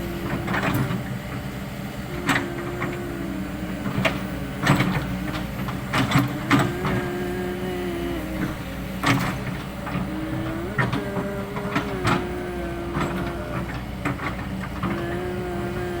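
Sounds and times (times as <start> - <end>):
excavator engine hum: 0.0 - 16.0
hydraulic whine: 0.0 - 16.0.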